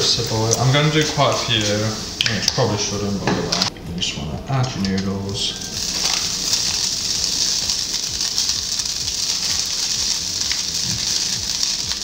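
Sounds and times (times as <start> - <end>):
noodles sizzling in hot oil: 0.0 - 3.7, 5.2 - 12.0.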